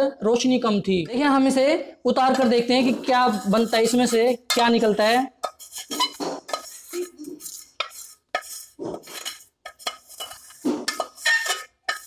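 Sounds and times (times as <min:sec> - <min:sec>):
metal spoon scraping saucepan: 0:02.2 - 0:12.0.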